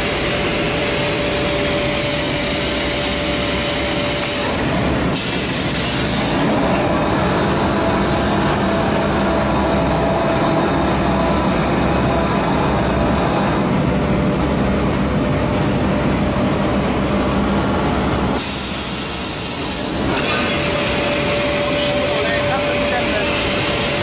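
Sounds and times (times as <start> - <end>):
production line machinery running: 0.0 - 24.0.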